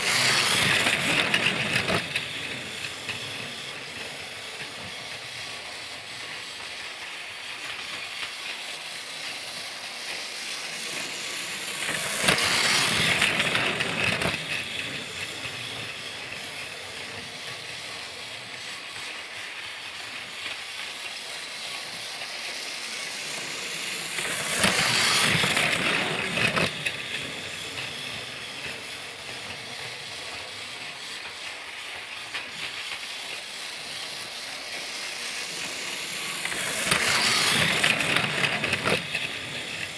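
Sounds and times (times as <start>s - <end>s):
toy train mechanical whir: 0.0s - 39.9s.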